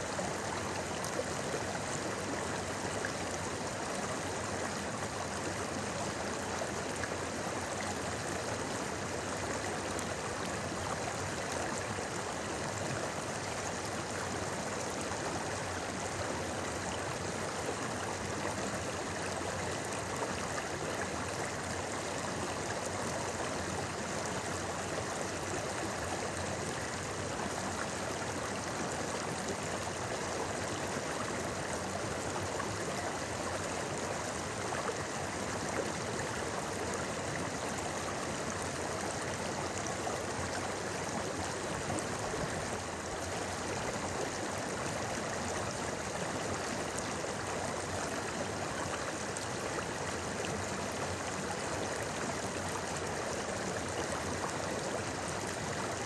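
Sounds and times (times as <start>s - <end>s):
river water babbling over stones: 0.0s - 56.0s.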